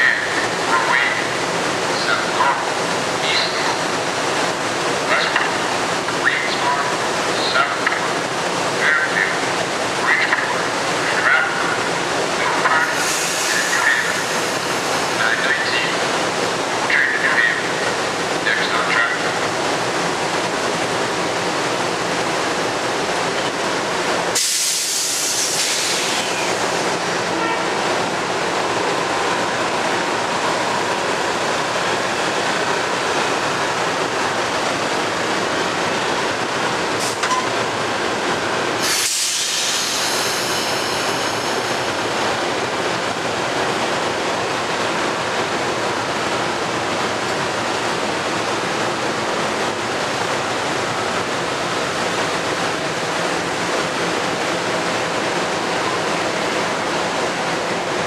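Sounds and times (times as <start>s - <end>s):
train rolling past: 0.0s - 58.0s.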